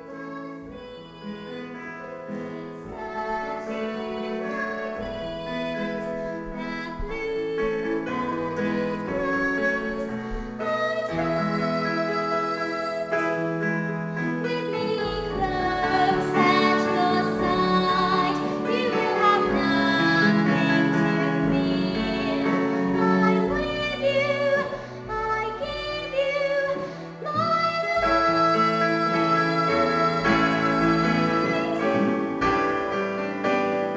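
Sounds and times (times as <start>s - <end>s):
woman singing: 0.0s - 33.2s
piano accompaniment: 0.0s - 33.9s.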